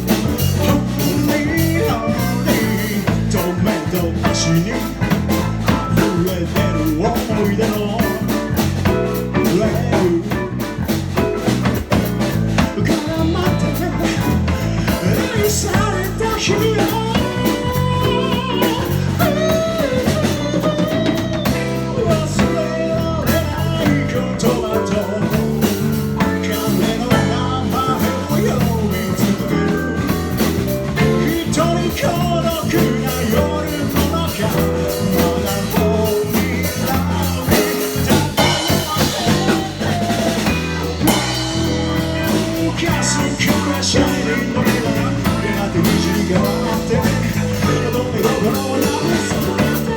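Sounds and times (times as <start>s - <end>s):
rock band playing: 0.0s - 49.9s
wavering melodic lead line: 0.0s - 49.9s.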